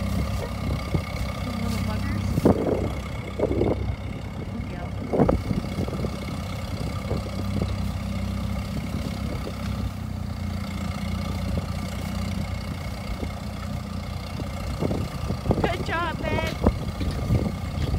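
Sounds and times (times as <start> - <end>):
tractor engine under load: 0.0 - 17.9.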